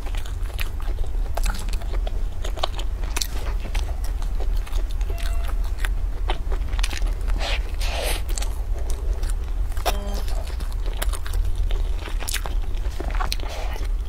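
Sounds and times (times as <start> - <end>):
chewing bread buns: 0.0 - 14.0
steady low hum: 0.0 - 14.0.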